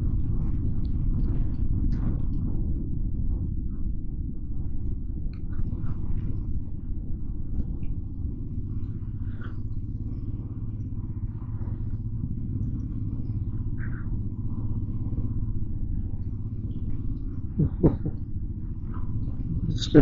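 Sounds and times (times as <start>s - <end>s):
motorcycle rumbling: 0.0s - 20.0s.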